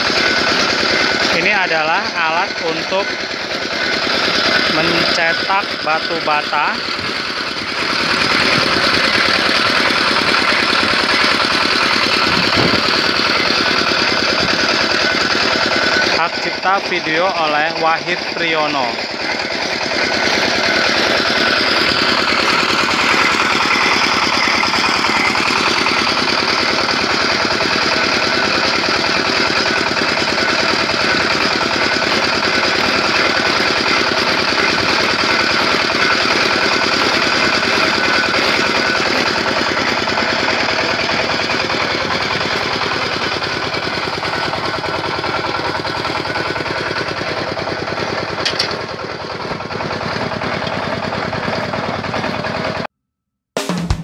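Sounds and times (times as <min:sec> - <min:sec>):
brick extruder machine drone: 0:00.0 - 0:52.9.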